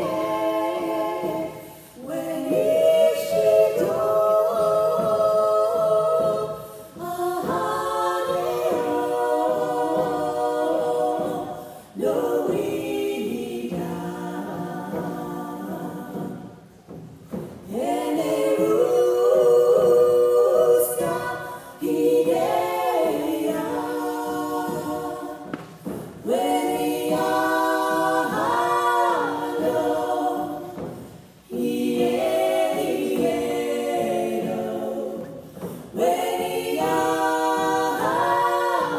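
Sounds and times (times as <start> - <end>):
women singing in harmony: 0.0 - 38.9.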